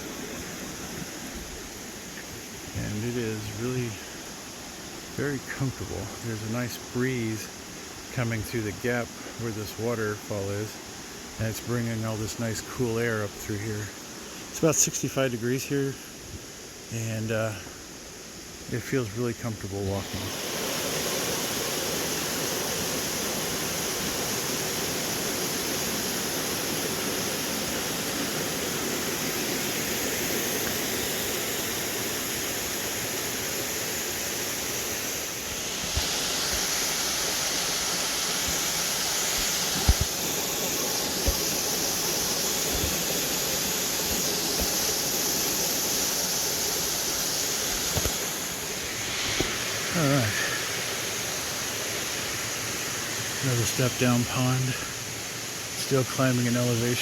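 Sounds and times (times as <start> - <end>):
waterfall rushing: 0.0 - 15.2, 19.6 - 57.0.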